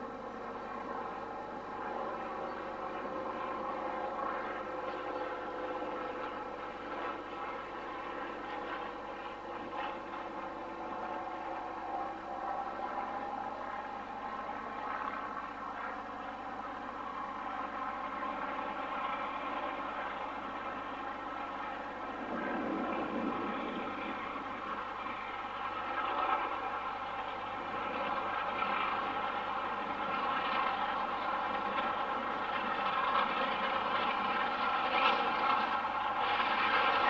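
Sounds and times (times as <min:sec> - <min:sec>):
distant steam locomotive working: 0:00.0 - 0:37.0.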